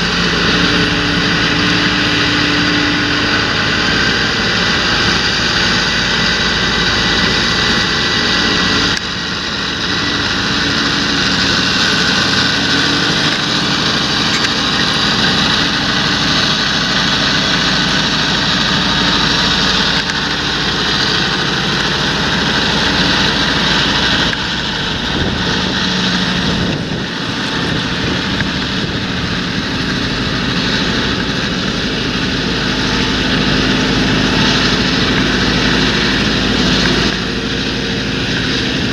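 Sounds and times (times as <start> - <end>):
tractor engine running under load: 0.0 - 38.9.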